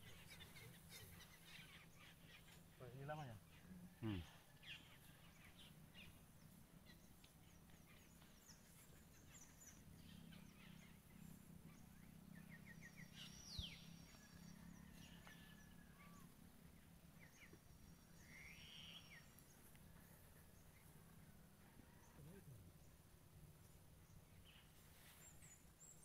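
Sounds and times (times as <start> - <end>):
low steady hum: 3.4 - 26.0.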